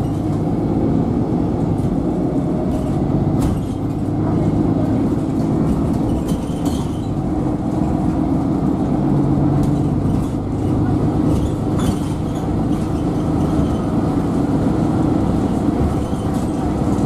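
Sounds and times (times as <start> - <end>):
bus engine drone: 0.0 - 17.0
road and tyre noise: 0.0 - 17.0.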